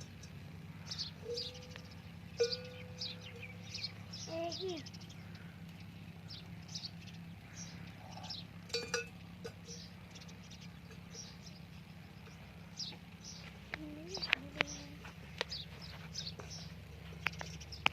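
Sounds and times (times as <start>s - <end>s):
small birds chirping: 0.0s - 17.9s
steady low hum: 0.0s - 17.9s.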